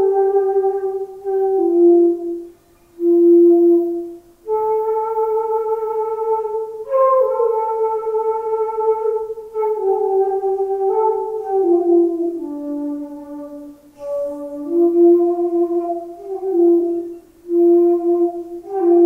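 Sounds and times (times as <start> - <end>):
solo flute playing slowly: 0.0 - 19.0.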